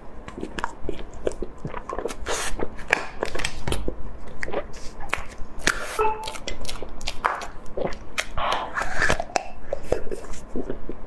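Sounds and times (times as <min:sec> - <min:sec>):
wet chewing and mouth clicks: 0:00.2 - 0:11.0.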